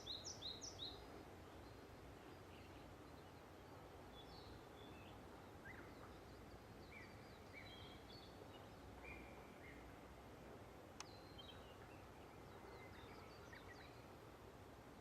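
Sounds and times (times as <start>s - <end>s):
faint bird chirps: 0.0s - 10.1s, 11.0s - 14.2s.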